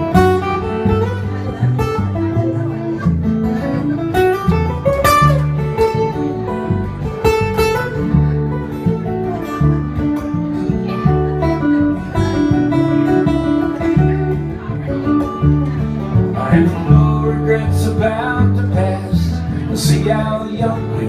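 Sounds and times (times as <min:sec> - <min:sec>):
acoustic guitar strumming: 0:00.0 - 0:21.0
bass: 0:00.0 - 0:21.0.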